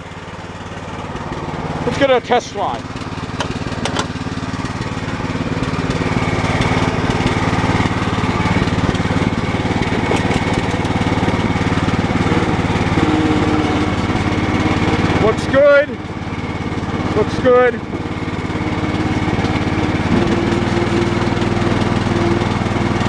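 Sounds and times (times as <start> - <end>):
lawn tractor engine running: 0.0 - 23.0.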